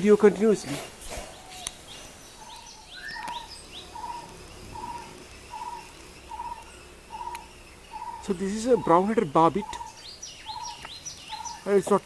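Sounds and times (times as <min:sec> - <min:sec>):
barbet calling low notes: 0:00.6 - 0:11.9
small bird rising chirps: 0:01.2 - 0:11.7.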